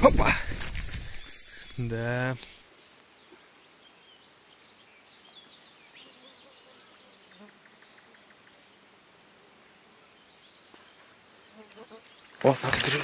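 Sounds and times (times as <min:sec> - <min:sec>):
faint birdsong: 0:00.4 - 0:13.0.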